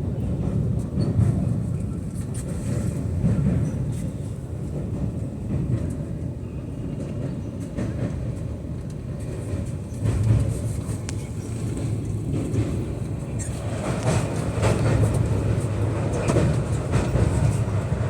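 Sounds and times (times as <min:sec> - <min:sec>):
train rumbling on track: 0:00.0 - 0:18.0.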